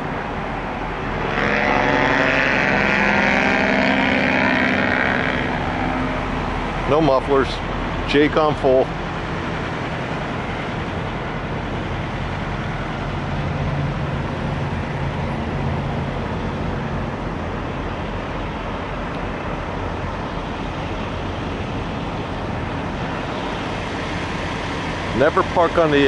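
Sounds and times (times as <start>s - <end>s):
road traffic: 0.0s - 26.0s
truck engines humming: 0.0s - 26.0s.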